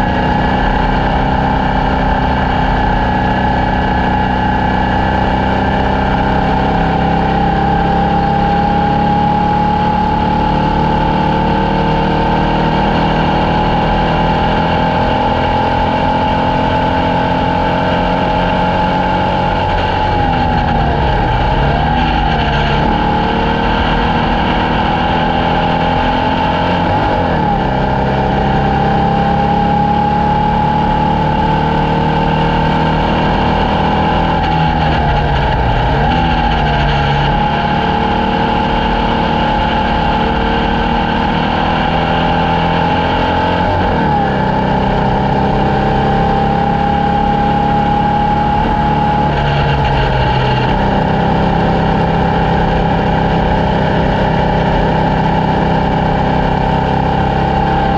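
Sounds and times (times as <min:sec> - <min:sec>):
race car engine at high revs: 0:00.0 - 0:57.9.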